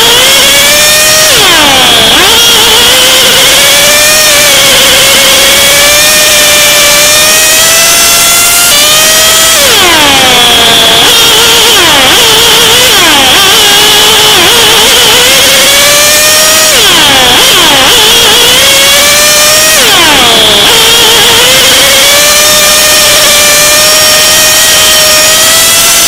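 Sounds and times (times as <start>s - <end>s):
racing kart engine: 0.0s - 26.0s.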